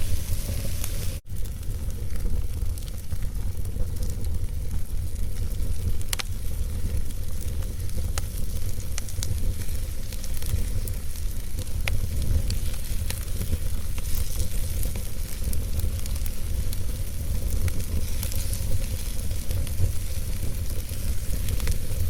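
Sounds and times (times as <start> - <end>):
logs burning in fireplace: 0.0 - 22.0.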